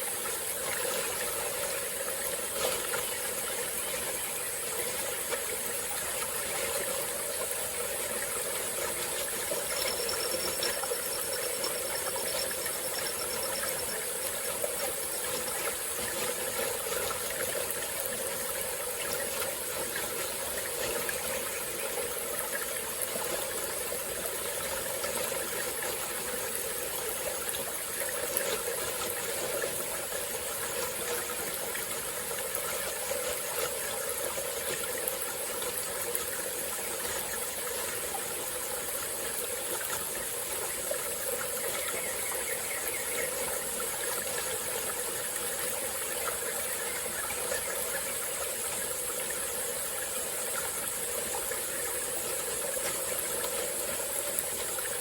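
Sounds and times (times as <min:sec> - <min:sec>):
forest stream flowing: 0:00.0 - 0:55.0.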